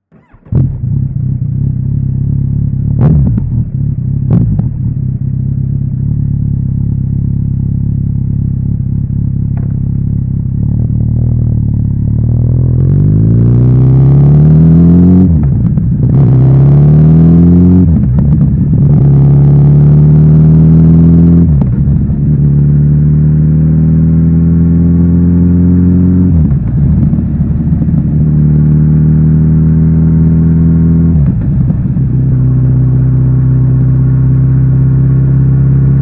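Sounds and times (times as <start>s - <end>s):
motorcycle engine revving: 0.1s - 36.0s.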